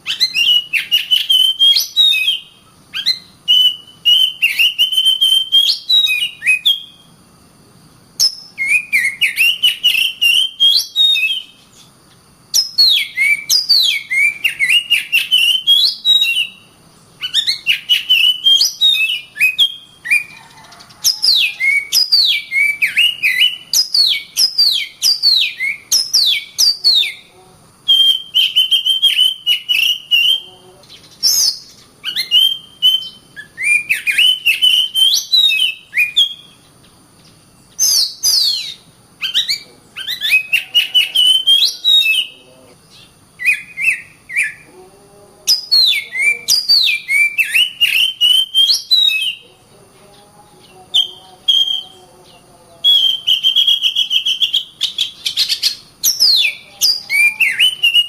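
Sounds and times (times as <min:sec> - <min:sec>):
bird song with whistled notes: 0:00.0 - 0:07.1, 0:08.2 - 0:44.7, 0:45.5 - 0:49.5, 0:50.1 - 0:58.0.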